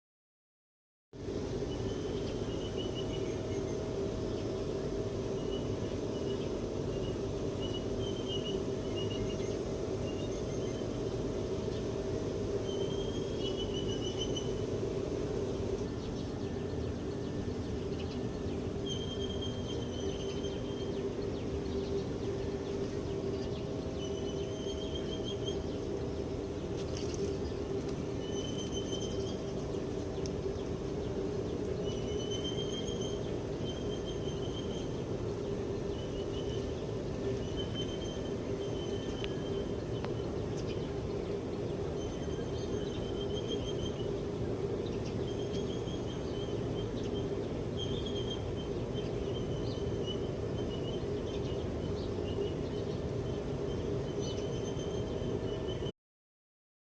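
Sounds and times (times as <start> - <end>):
steady low hum: 1.2 - 55.9
bird warbling trills: 1.6 - 55.9.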